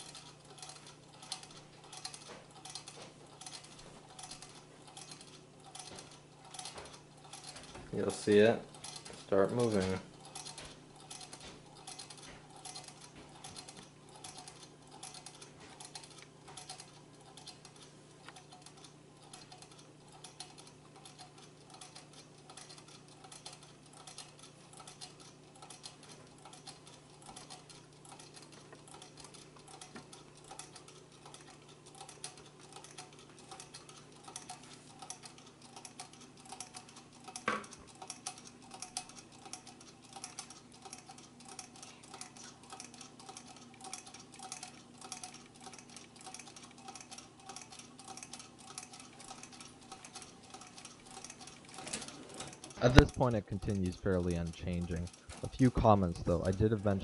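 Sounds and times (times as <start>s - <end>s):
small engine rhythmic ticking: 0.0s - 57.0s.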